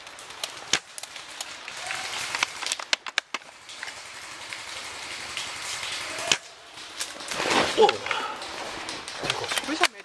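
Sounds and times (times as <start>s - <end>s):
rustling hiss: 0.0s - 10.0s.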